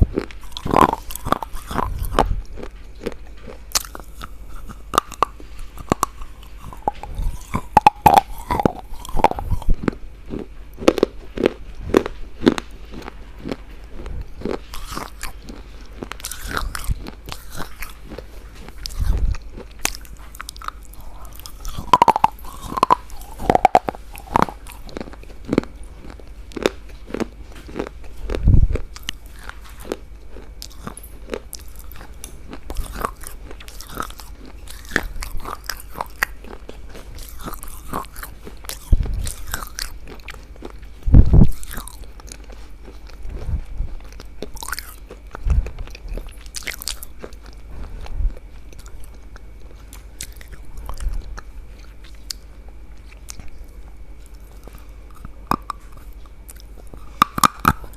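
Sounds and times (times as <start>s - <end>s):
crisp crunching bites: 0.0s - 52.4s, 53.0s - 57.9s
chewing: 0.0s - 57.9s.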